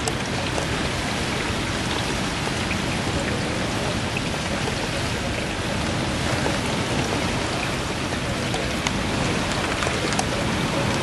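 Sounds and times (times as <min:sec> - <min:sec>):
gusting wind: 0:00.0 - 0:11.0
heavy rain hissing: 0:00.0 - 0:11.0.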